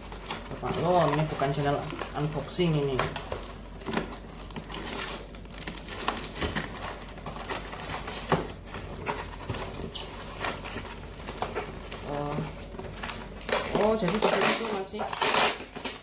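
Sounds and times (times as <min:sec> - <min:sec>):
cardboard rustling and scraping: 0:00.0 - 0:16.0.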